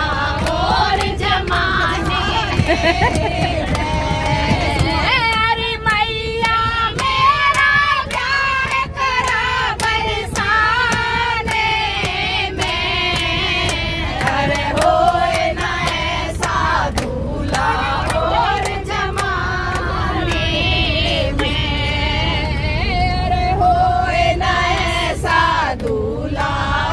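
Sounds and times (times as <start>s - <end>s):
rhythmic hand-clapping: 0.0s - 22.5s, 23.6s - 26.9s
women singing in unison: 0.0s - 26.9s.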